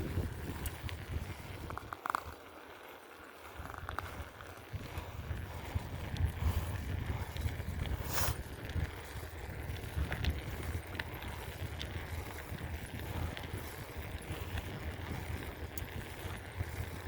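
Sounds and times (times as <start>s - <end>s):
bicycle rumble: 0.0s - 17.0s
bike clicks and rattles: 0.0s - 17.0s.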